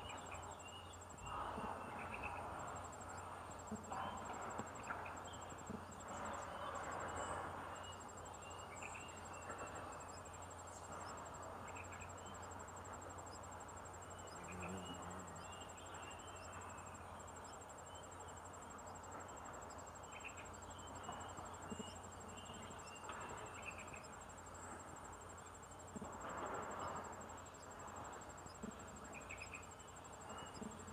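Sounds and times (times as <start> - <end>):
high-pitched cricket trill: 0.0 - 30.9.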